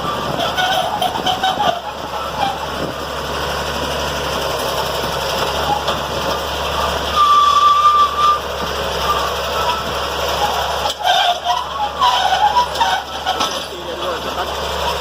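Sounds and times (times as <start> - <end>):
road-works machinery rumbling: 0.0 - 15.0.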